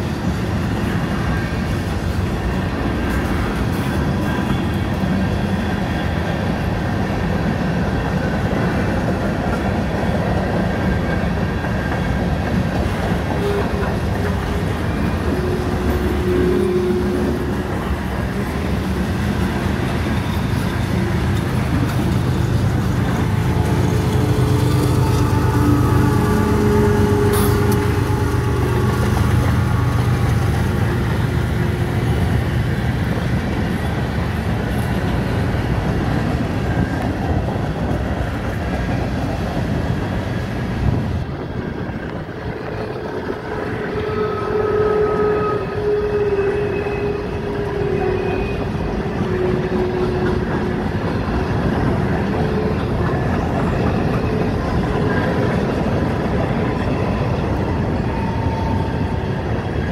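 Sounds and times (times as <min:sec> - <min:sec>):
freight cars rumbling and rattling: 0:00.0 - 0:44.0, 0:47.0 - 0:59.9
diesel locomotive running: 0:00.0 - 0:59.9.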